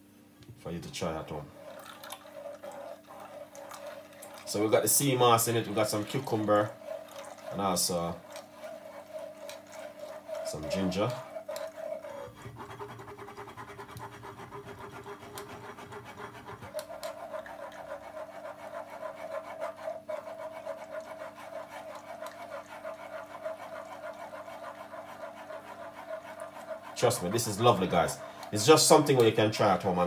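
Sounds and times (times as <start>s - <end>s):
metal spoon scraping through sieve: 1.0s - 29.8s.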